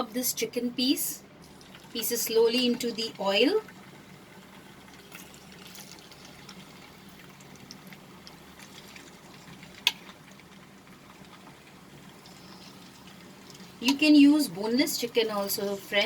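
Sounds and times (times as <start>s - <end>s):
chicken frying in hot oil: 0.1s - 16.0s.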